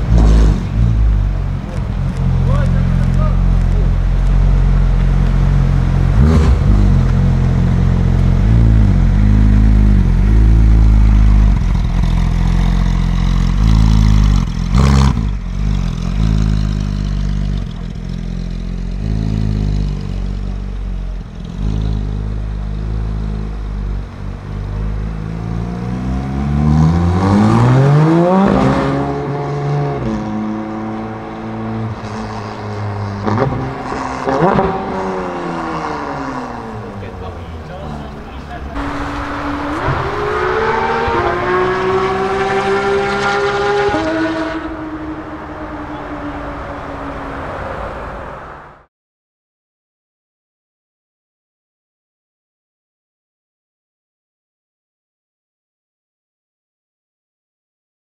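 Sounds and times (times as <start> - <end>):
car engine rumbling and revving: 0.0 - 48.9.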